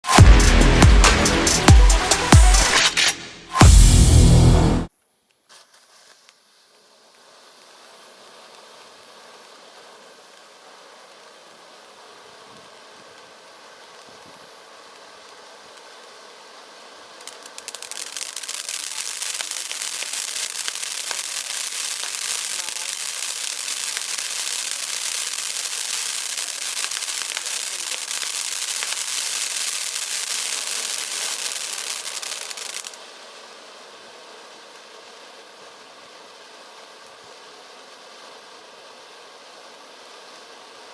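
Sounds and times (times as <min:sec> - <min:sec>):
firework fountain hissing: 0:00.0 - 0:04.8, 0:05.5 - 0:40.9
firework crackling: 0:00.0 - 0:04.9, 0:05.5 - 0:40.9.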